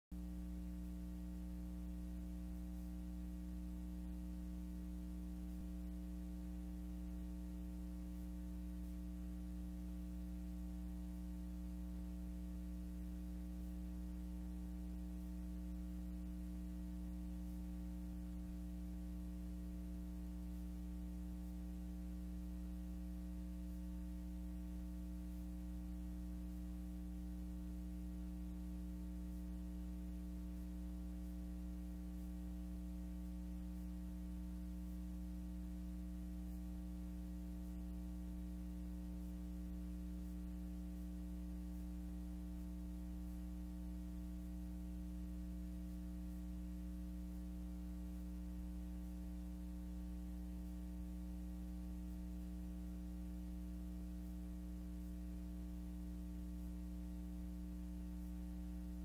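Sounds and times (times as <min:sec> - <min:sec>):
electrical hum: 0:00.1 - 0:59.0
faint hiss: 0:00.2 - 0:59.0.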